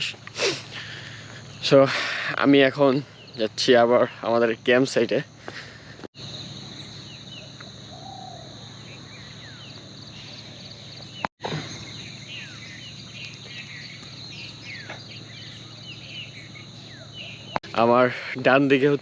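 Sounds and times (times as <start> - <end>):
birds chirping: 0.0 - 19.0
high insect drone: 0.0 - 19.0.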